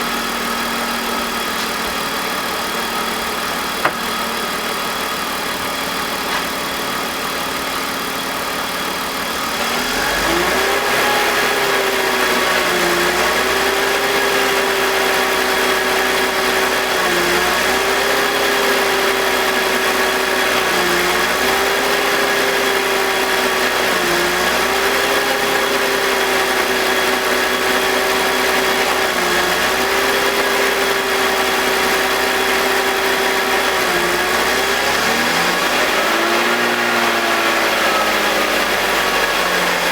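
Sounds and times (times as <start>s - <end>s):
car engine idling: 0.0s - 39.9s
steady engine tone: 0.0s - 39.9s.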